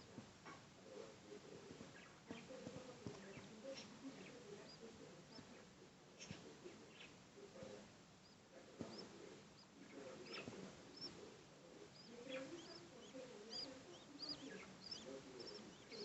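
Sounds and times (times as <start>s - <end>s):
soft low mumbling calls: 0.9s - 16.0s
young birds chirping: 1.8s - 16.0s.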